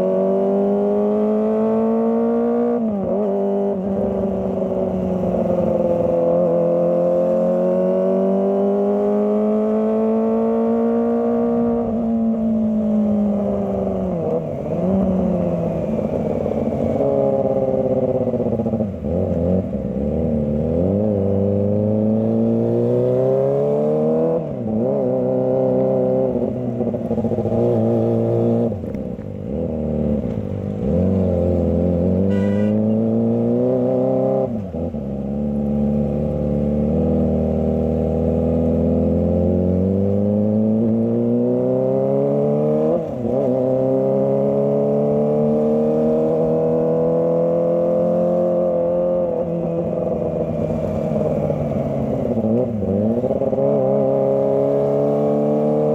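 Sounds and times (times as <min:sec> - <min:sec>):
motorcycle engine revving through gears: 0:00.0 - 0:55.9.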